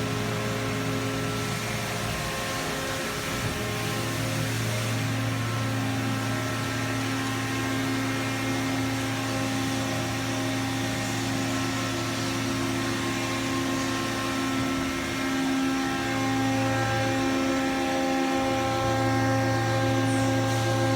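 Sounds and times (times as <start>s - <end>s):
milling machine hum: 0.0s - 20.9s.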